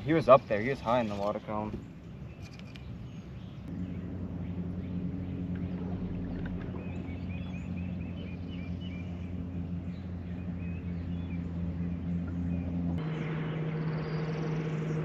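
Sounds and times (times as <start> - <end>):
low motor hum: 1.7 - 15.0.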